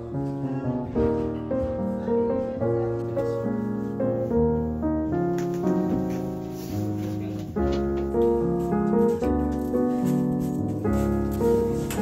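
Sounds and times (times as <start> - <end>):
piano background music: 0.0 - 12.0.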